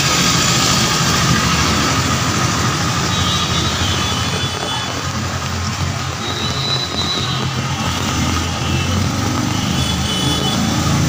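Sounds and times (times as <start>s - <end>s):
rain and water noise: 0.0s - 11.0s
vehicle engine running: 0.0s - 11.0s.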